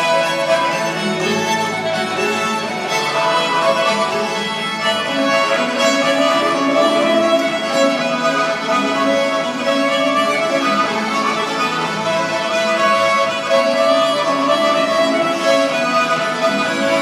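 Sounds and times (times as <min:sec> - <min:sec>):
fiddle: 0:00.0 - 0:17.0
harmonica: 0:00.0 - 0:17.0.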